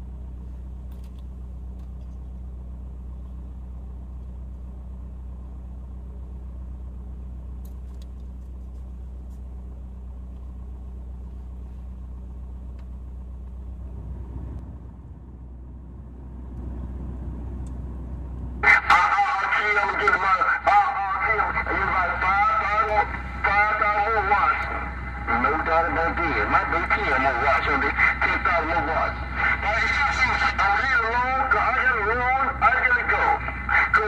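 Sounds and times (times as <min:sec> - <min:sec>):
car engine humming: 0:00.0 - 0:34.0.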